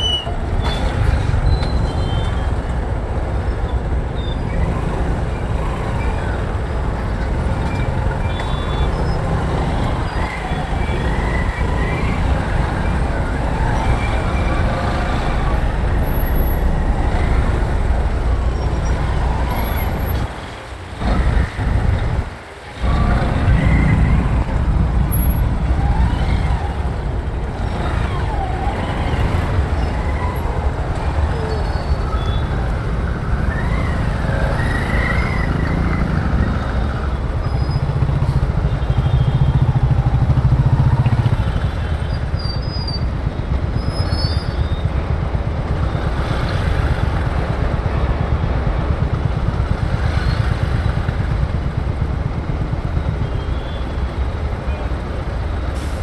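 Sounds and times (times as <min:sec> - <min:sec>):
motorcycle engine: 0:00.0 - 0:54.8
traffic noise: 0:00.0 - 0:56.0.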